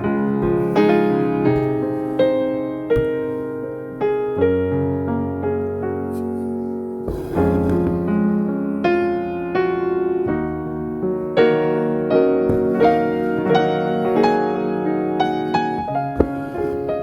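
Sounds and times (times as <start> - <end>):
calm piano melody: 0.0 - 17.0.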